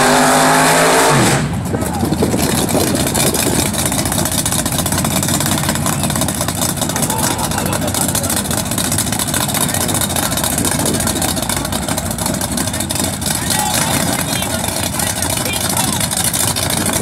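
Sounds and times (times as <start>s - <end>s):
race car engine idling loudly: 1.4s - 17.0s.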